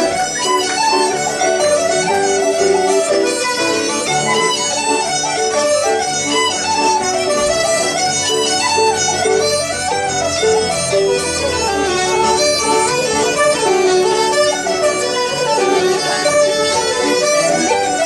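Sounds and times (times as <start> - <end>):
bouzouki strumming: 0.0 - 18.0
piano accompaniment: 0.0 - 18.0
woodwind melody: 0.0 - 18.0.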